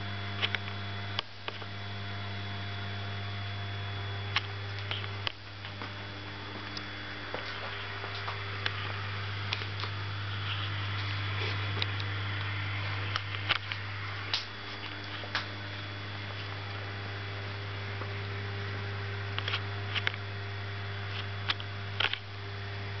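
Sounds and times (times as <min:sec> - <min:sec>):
aquarium equipment humming: 0:00.0 - 0:23.0.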